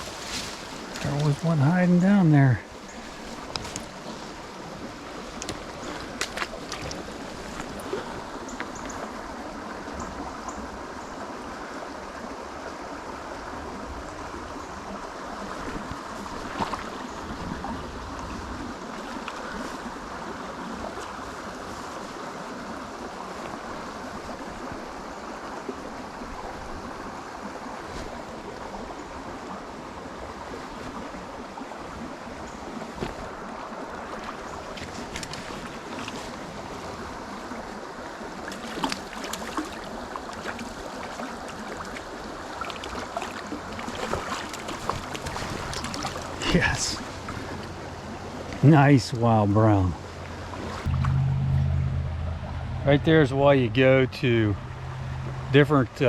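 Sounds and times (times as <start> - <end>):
water rushing over stones: 0.0 - 51.0.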